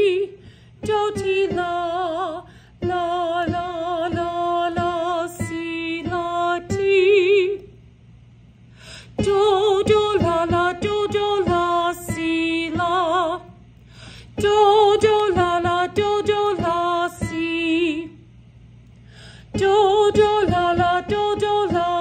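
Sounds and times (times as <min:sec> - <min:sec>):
woman singing with vibrato: 0:00.0 - 0:07.8, 0:09.1 - 0:13.7, 0:14.3 - 0:18.2, 0:19.4 - 0:22.0.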